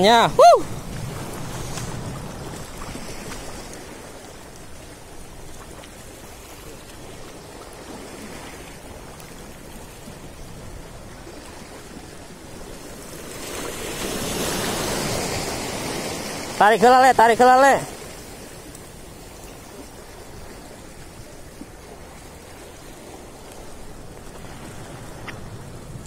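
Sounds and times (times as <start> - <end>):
surf washing against rocks: 0.0 - 26.0.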